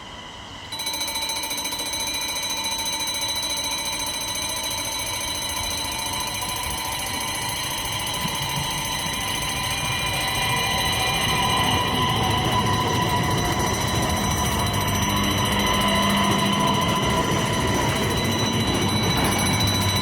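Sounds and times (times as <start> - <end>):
shrill pulsing electronic alarm: 0.7 - 20.0.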